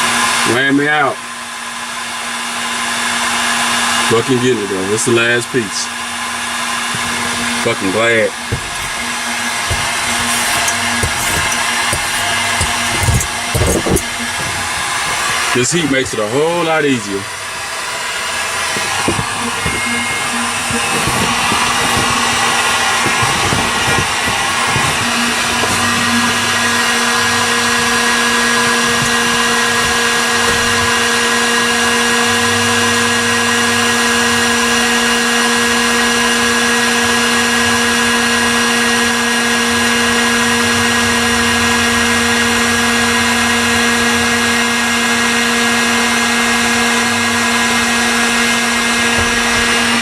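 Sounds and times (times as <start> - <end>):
heat gun fan humming: 0.0 - 50.0.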